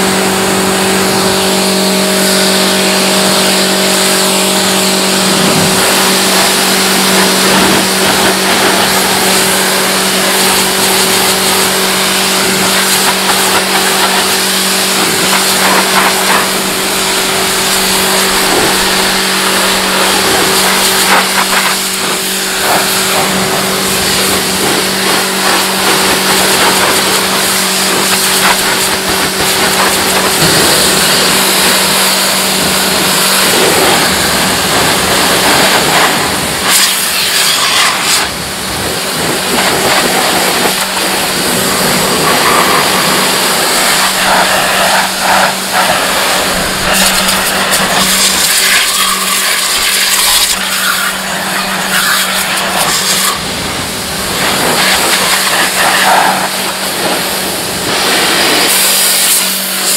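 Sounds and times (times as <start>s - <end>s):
pressure washer spray hissing: 0.0s - 59.9s
washer motor and pump humming: 0.0s - 59.9s.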